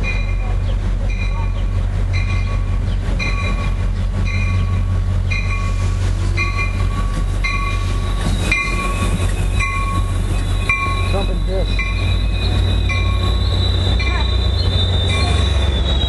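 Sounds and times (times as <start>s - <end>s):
diesel locomotive rumbling: 0.0s - 16.0s
locomotive bell ringing: 0.0s - 16.0s.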